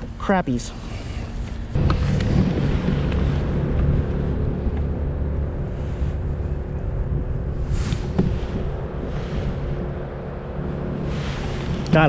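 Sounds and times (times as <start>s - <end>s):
wind buffeting microphone: 1.6s - 12.0s.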